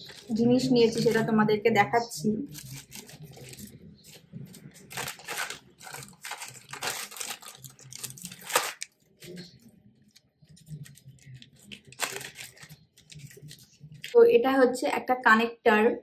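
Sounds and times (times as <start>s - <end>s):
plastic packaging rustling: 0.0s - 1.3s, 2.5s - 14.2s.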